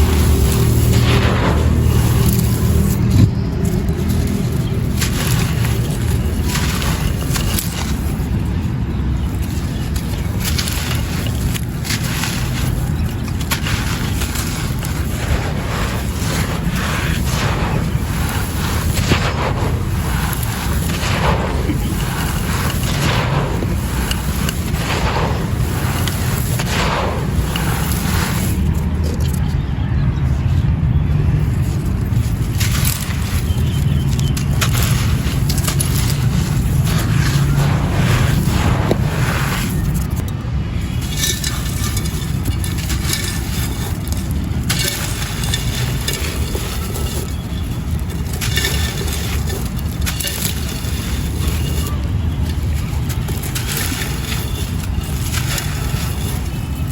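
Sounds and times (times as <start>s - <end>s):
clay pot pieces crunching: 0.0s - 29.6s, 31.4s - 56.9s
steady low rumble: 0.0s - 56.9s.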